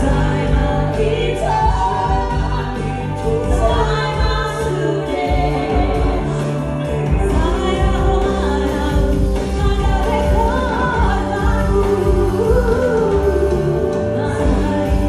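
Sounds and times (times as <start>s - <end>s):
bass guitar: 0.0s - 15.0s
electric guitar: 0.0s - 15.0s
women singing pop song: 0.0s - 15.0s.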